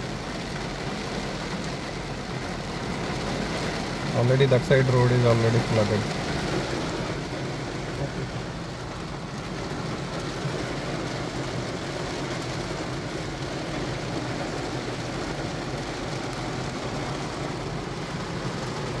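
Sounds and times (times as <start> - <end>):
car engine hum: 0.0 - 19.0
heavy rain drumming on car roof: 0.0 - 19.0.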